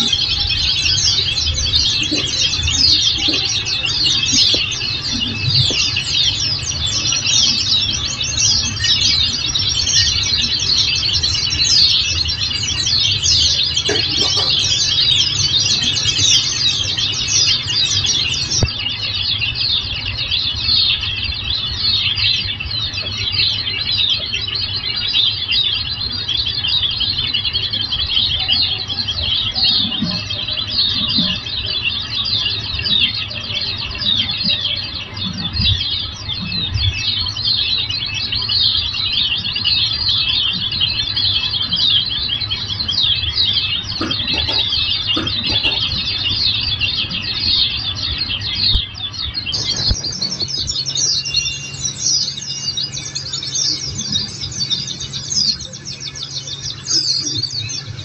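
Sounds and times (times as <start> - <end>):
flock of birds twittering: 0.0 - 58.0
steady low hum: 0.0 - 58.0.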